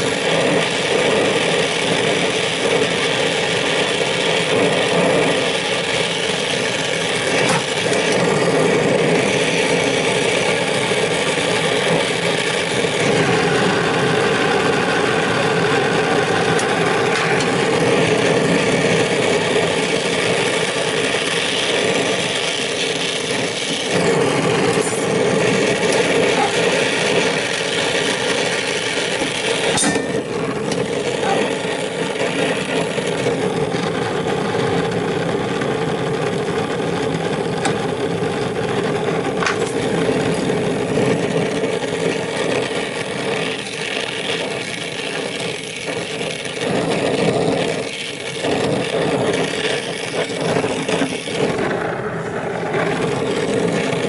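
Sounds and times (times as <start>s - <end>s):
machine running with scraping noise: 0.0s - 54.0s.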